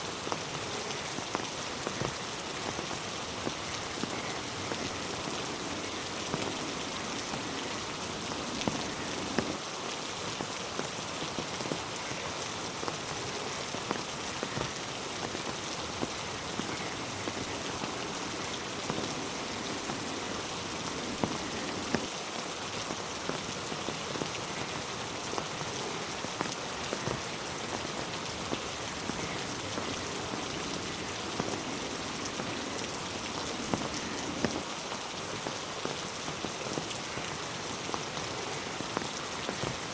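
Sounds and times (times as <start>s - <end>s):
steady rain falling: 0.0s - 39.9s
raindrops tapping sharply: 1.2s - 9.6s, 12.8s - 22.1s, 22.9s - 39.9s.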